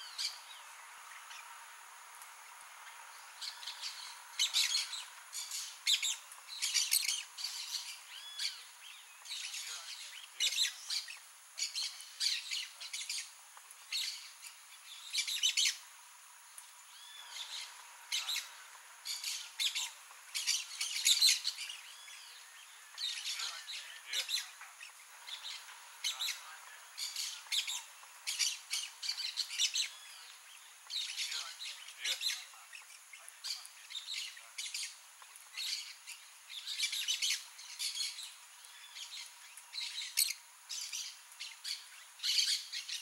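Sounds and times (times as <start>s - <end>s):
parakeets chattering calls: 2.8s - 15.8s, 16.9s - 43.0s.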